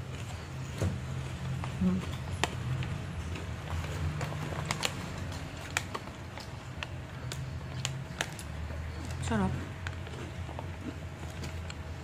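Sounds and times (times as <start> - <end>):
crunching of chips being chewed: 1.4 - 12.0.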